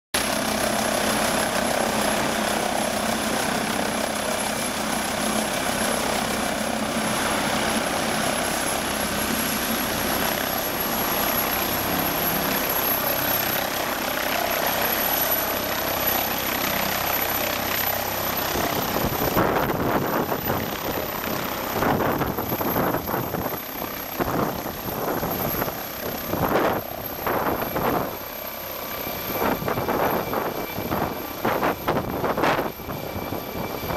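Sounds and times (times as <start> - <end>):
helicopter rotor pulsing: 0.2 - 33.9
helicopter turbine noise: 0.2 - 33.9
high turbine whine: 0.2 - 33.9.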